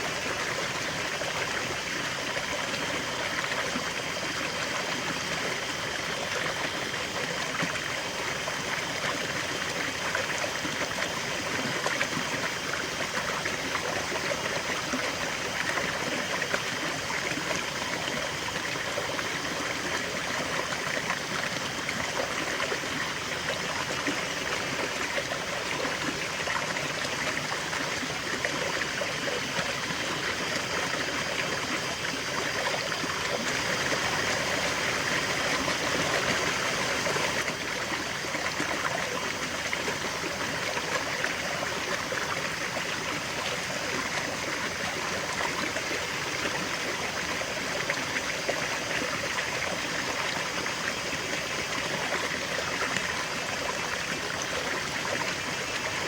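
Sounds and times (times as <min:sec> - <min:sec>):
river water rushing and trickling: 0:00.0 - 0:56.0.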